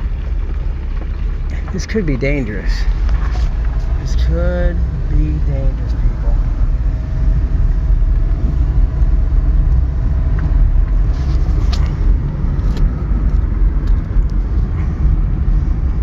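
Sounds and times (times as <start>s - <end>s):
road noise rumble: 0.0s - 16.0s
wind buffeting in moving car: 0.0s - 16.0s.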